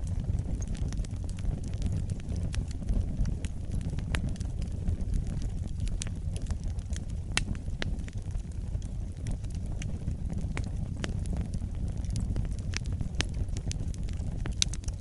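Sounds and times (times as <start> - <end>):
fire crackling and rumbling: 0.0 - 15.0.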